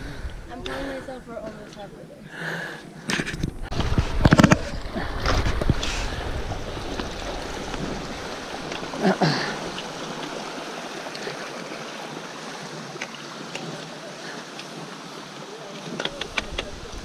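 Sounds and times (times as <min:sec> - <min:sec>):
stream trickling over rocks: 0:03.0 - 0:17.0.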